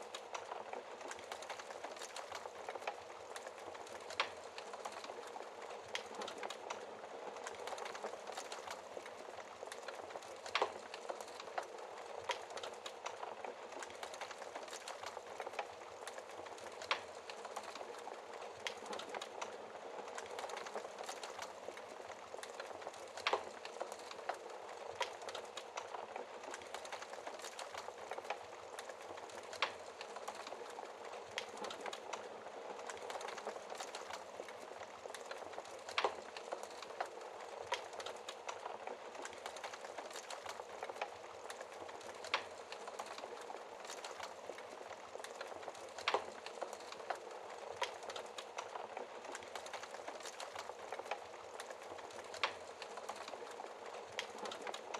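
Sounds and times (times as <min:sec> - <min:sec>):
wood fire crackling and hissing: 0:00.0 - 0:54.9.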